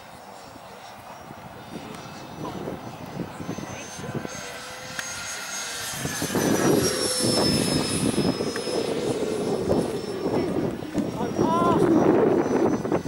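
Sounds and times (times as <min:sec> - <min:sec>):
electric ducted fan whine: 0:00.0 - 0:13.0
wind buffeting microphone: 0:01.2 - 0:13.0.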